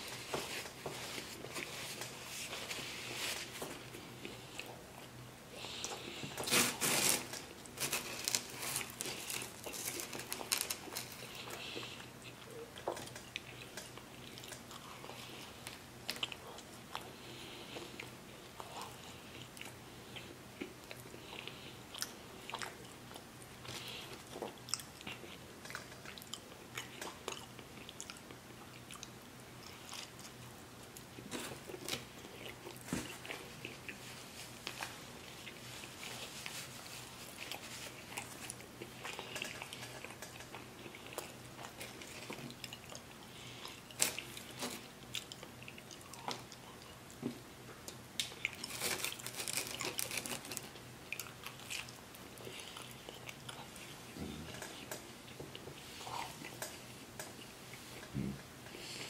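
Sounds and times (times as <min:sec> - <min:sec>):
person chewing crunchy pizza: 0:00.0 - 0:47.2, 0:47.9 - 0:59.0.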